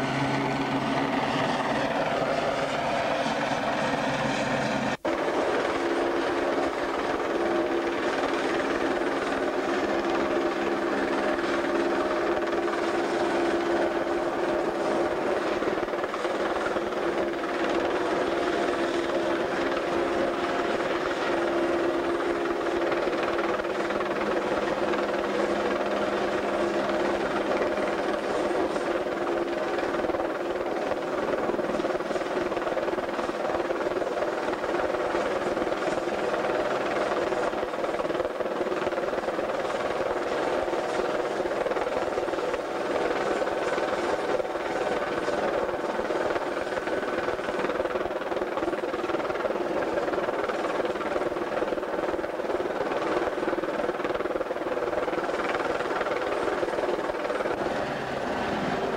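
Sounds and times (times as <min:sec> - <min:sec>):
helicopter hovering drone: 0:00.0 - 0:58.9.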